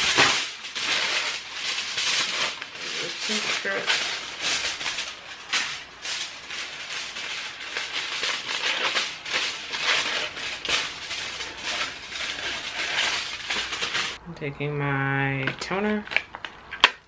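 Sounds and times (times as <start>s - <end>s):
aluminium foil crinkling: 0.0s - 14.2s.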